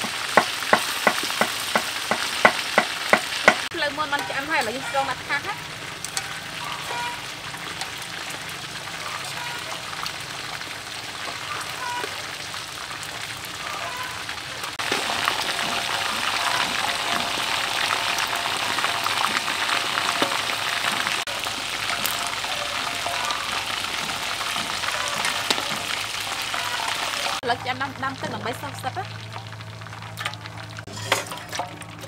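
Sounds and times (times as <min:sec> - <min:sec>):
chicken sizzling in hot oil: 0:00.0 - 0:32.0.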